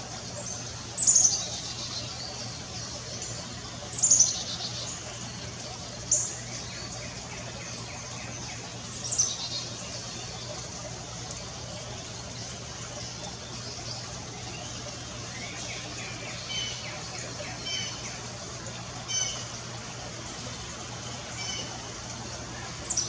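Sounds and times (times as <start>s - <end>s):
wild birds chirping: 0.0s - 23.0s.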